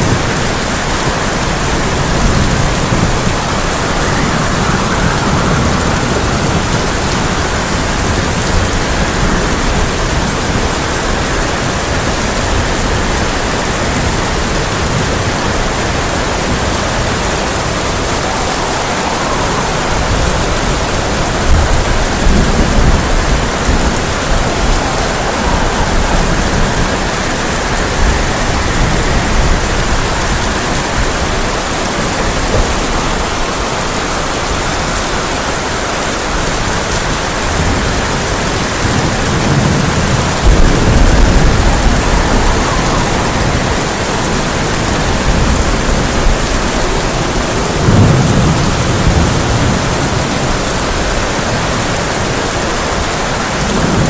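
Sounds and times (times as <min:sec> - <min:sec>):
heavy rain on a tin roof: 0:00.0 - 0:54.0
rolling thunder: 0:00.0 - 0:54.0.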